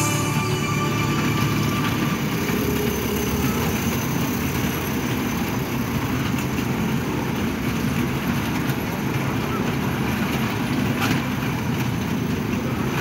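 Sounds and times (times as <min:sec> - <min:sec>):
carousel cars rumbling on steel track: 0:00.0 - 0:13.0.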